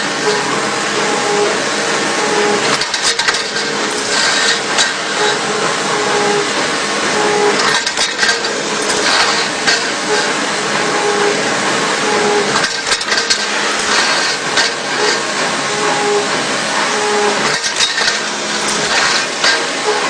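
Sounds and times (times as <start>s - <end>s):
lathe cutting metal: 0.0s - 20.0s.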